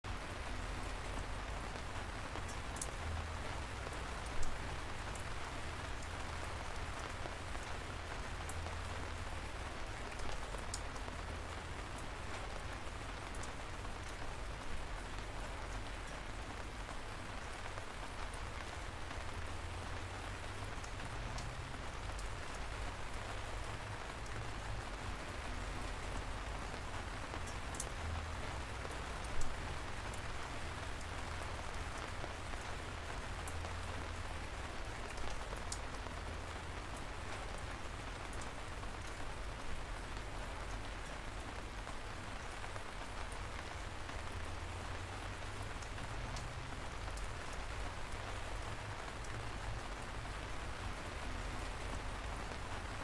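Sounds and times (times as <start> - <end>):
light rain pattering: 0.0 - 53.0.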